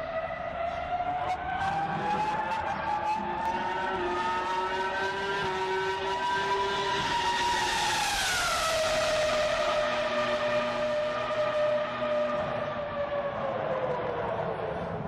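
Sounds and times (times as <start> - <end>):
racing car engine revving high: 1.2 - 15.0.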